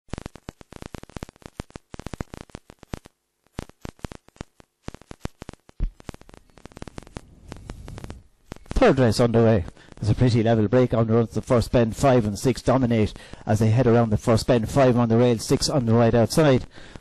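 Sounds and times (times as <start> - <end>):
crackling clicks: 0.1 - 13.5, 14.2 - 17.0.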